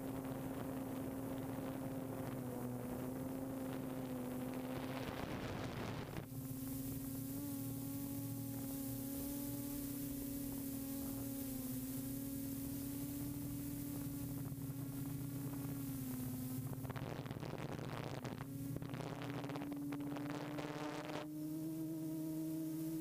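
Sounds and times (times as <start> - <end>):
drone propellers humming: 0.0 - 23.0.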